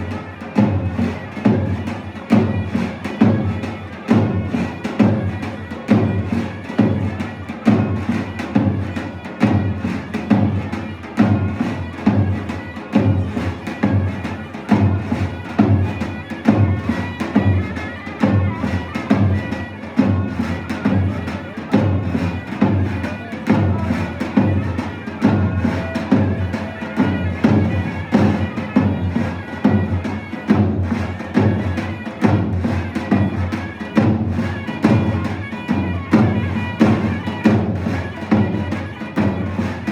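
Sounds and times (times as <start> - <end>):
drum beating steady rhythm: 0.0 - 39.9
reedy wind instrument melody: 0.1 - 39.9.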